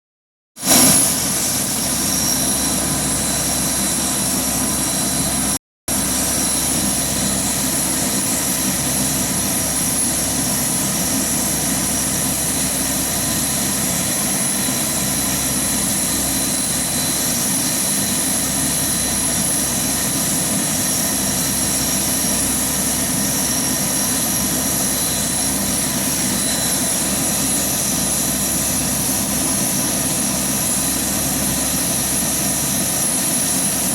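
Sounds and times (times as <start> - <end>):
high turbine whine: 0.6 - 33.9
turboprop engines roaring: 0.7 - 33.9.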